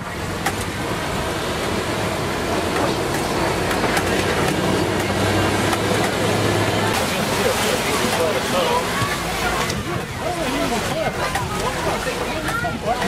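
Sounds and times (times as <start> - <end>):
truck engine hum: 0.0 - 13.0.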